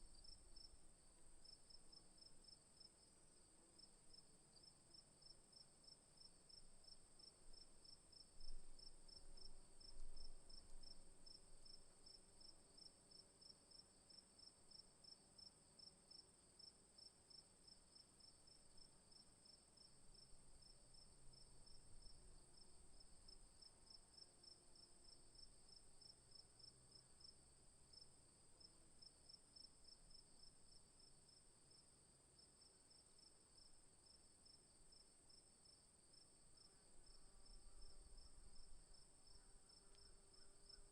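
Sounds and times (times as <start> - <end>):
lower rapid cricket chirps: 0.0 - 40.9.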